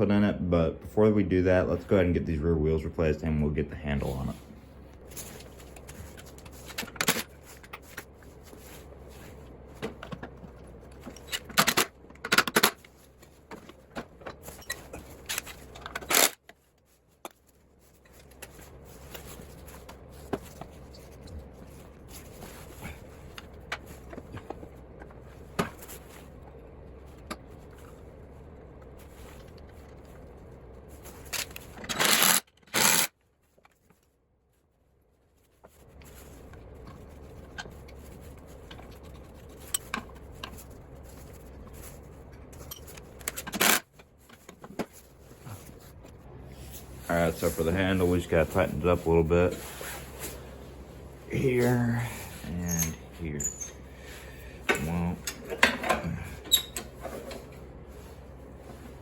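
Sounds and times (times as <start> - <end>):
parts scraping and rubbing: 4.0 - 34.1, 35.4 - 59.0.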